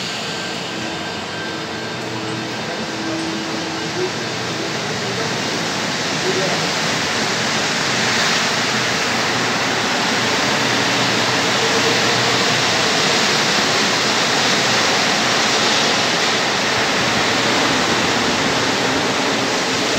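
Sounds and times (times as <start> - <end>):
metro train rushing: 0.0 - 19.9.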